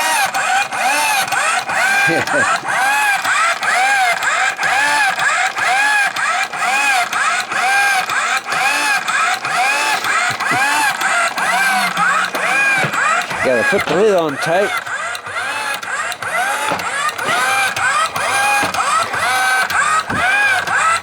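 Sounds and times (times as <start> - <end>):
washing machine motor whine: 0.0 - 21.0
regular clicks: 0.1 - 21.0.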